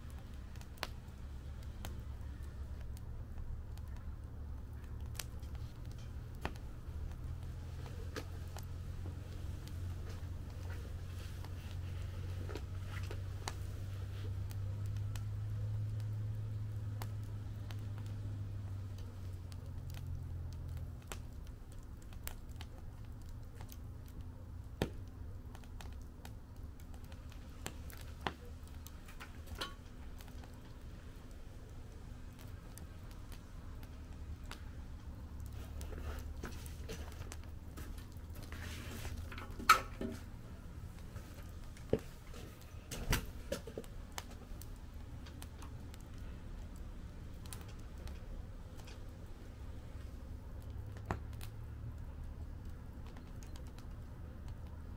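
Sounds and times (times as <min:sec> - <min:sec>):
low steady rumble: 0:00.0 - 0:54.9
wood fire crackling and popping: 0:00.0 - 0:54.9.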